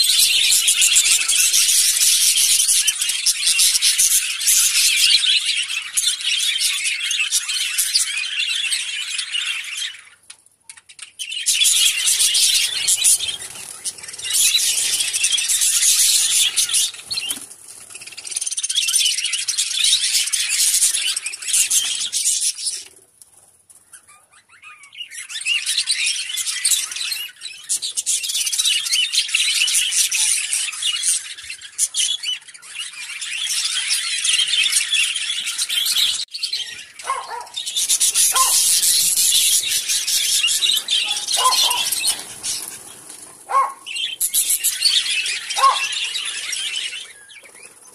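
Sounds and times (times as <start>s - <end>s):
budgerigars chattering: 0.0s - 10.2s, 10.8s - 22.8s, 24.0s - 47.8s.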